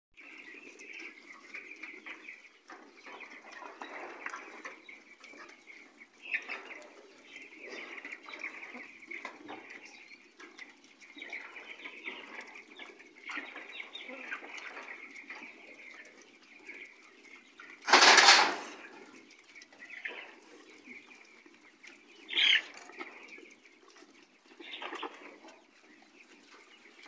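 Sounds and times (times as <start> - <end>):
piglets chewing and rooting: 0.2 - 27.0.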